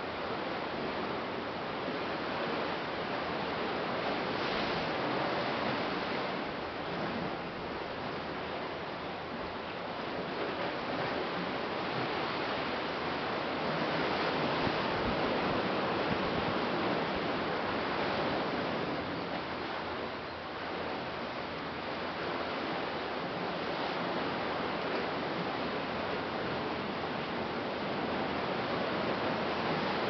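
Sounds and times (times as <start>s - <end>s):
ocean surf on rocks: 0.0s - 30.0s.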